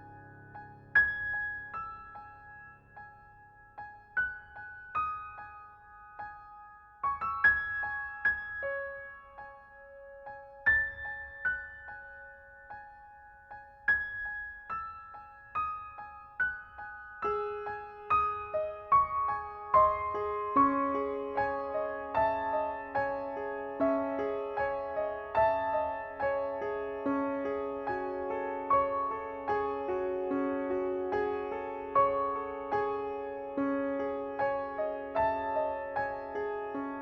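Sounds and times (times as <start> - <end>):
soft piano music: 0.0 - 37.0.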